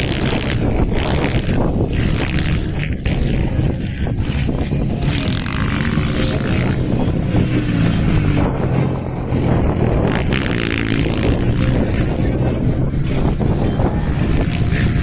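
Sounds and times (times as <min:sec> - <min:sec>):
motocross bikes racing: 0:00.0 - 0:15.0.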